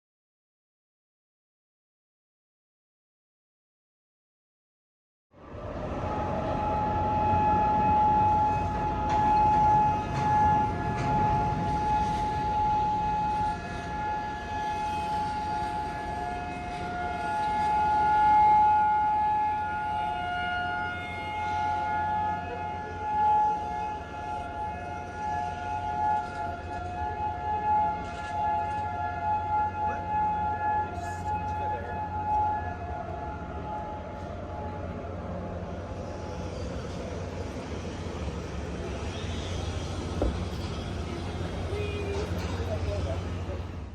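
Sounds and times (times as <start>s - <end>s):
steady-tone warning sirens: 5.4s - 43.9s.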